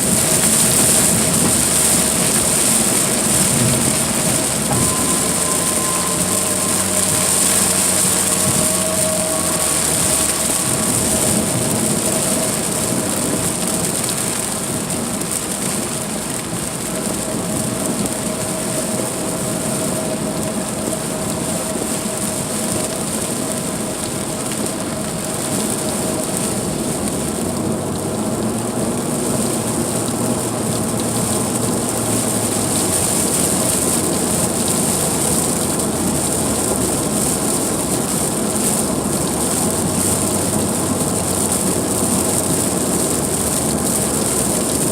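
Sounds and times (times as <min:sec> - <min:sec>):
rain striking car: 0:00.0 - 0:44.9
tyre and engine noise: 0:00.0 - 0:44.9.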